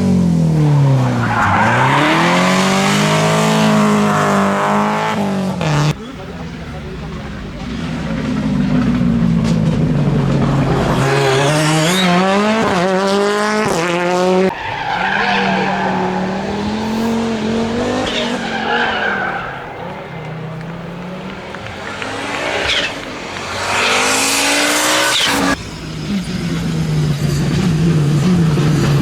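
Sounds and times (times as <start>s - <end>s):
rally car engines accelerating: 0.0s - 29.0s.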